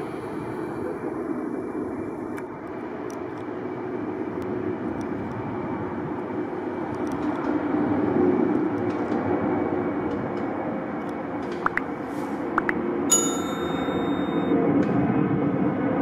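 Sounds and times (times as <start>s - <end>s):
jet engines roaring: 0.0s - 13.1s, 14.6s - 16.0s.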